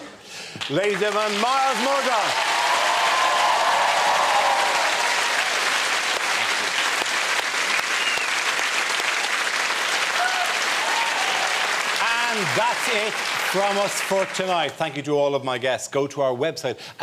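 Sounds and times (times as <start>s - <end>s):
audience applauding: 0.6s - 14.8s.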